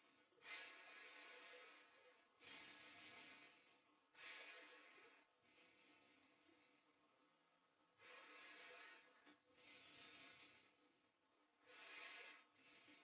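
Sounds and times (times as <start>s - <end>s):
soft breathing close to microphone: 0.0s - 7.2s, 7.9s - 13.0s.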